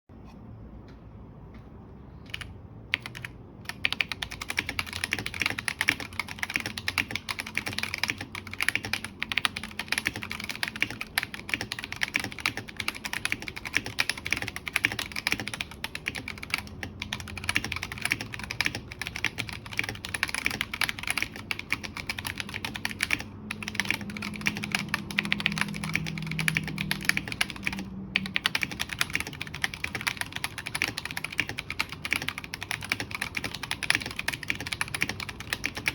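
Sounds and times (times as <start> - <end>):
mechanical keyboard typing: 2.2 - 35.9.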